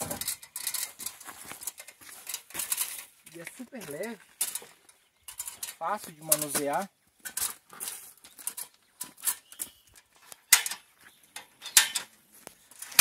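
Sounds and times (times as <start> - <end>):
metal ladder clicks and clanks: 0.0 - 13.0.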